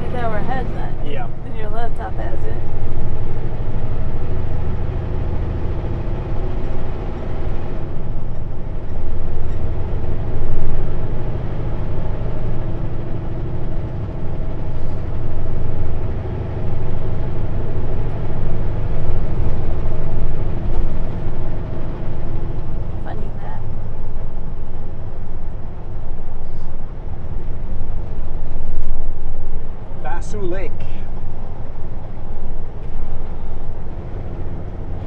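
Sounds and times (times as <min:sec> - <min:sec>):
diesel engine drone: 0:00.0 - 0:35.0
road noise: 0:00.0 - 0:35.0.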